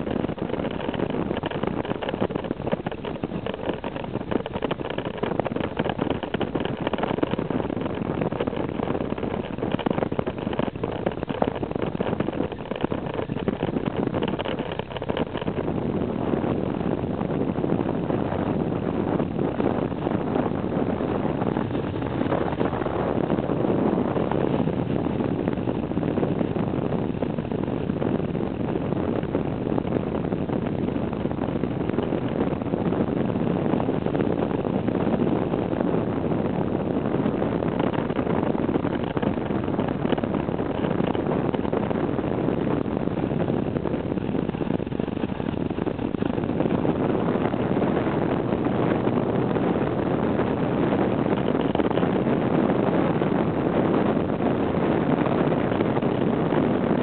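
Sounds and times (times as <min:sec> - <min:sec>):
vehicle engine and tyres droning: 0:00.0 - 0:57.0
wind on microphone: 0:00.0 - 0:57.0.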